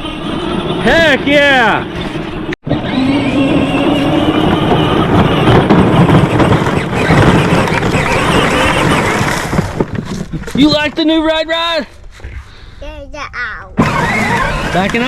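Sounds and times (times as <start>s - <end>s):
electric motor and gearbox whine: 0.0s - 11.0s, 13.8s - 15.0s
wheels rumbling on rough ground: 0.0s - 12.5s, 13.7s - 15.0s.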